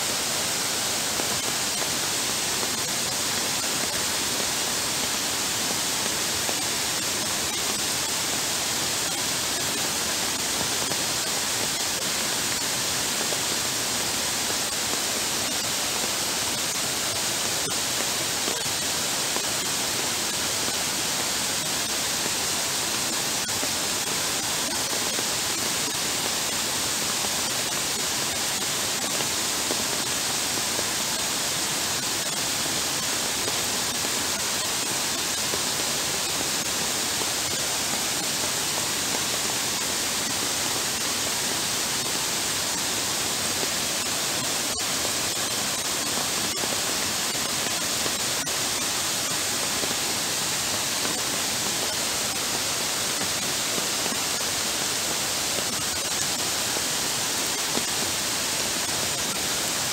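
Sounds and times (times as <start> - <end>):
heavy rain on paved path: 0.0 - 59.9.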